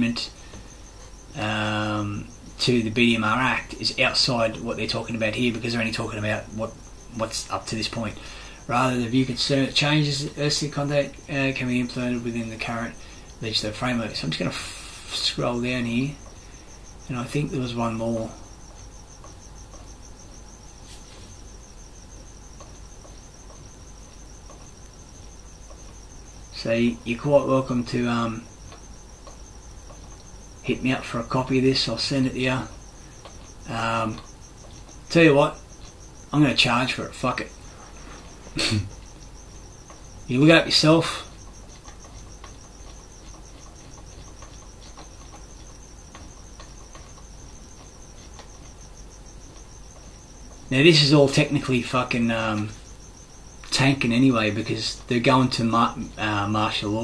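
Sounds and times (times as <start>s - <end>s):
cricket chirping: 0.0s - 57.0s
insect trilling: 0.0s - 57.0s.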